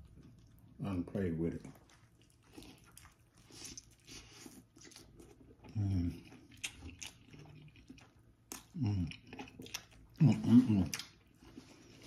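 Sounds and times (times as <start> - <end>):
crunchy chewing: 1.5 - 12.0.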